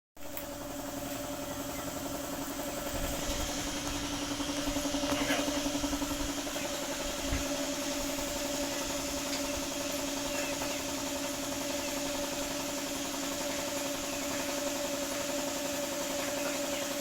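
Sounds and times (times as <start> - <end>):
diesel engine idling: 0.5 - 15.6.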